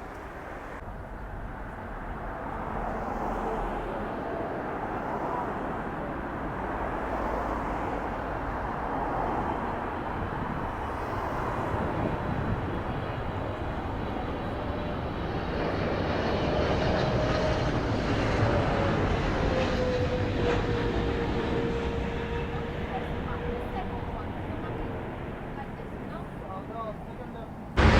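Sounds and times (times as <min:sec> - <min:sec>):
jet engines roaring: 0:00.0 - 0:26.7.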